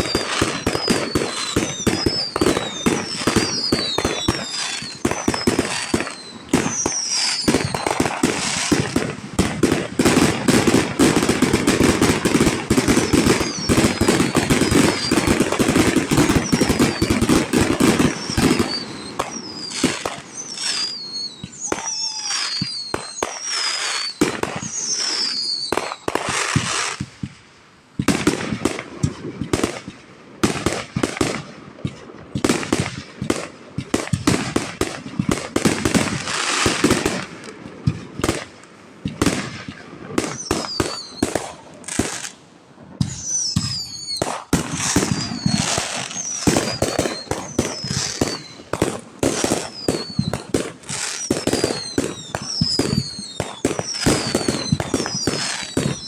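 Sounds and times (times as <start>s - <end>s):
fireworks falling whistles: 0.0s - 27.4s, 28.0s - 56.0s
fireworks bangs and crackling: 0.0s - 56.0s.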